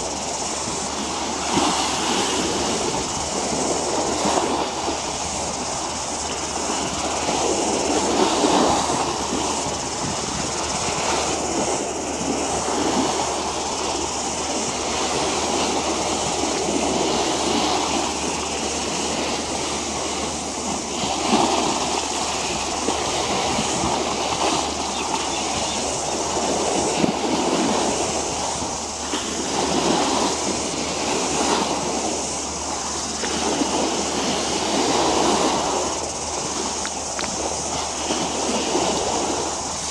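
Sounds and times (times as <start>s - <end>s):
water washing against shore: 0.0s - 39.9s.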